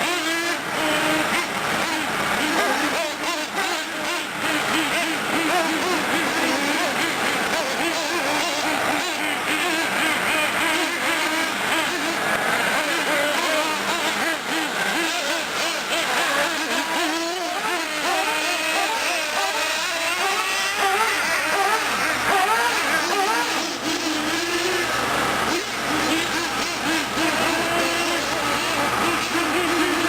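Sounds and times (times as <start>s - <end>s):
small engines revving: 0.0s - 30.0s.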